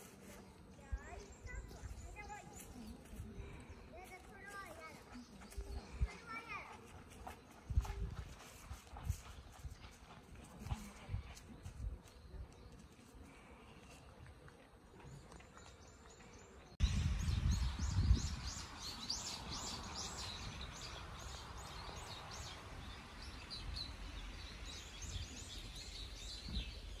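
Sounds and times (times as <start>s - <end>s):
many small birds chirping: 0.0s - 10.0s, 10.6s - 27.0s.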